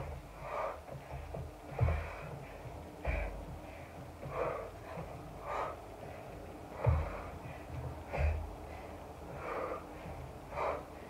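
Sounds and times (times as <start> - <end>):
feet thudding on exercise mat: 0.0 - 11.0.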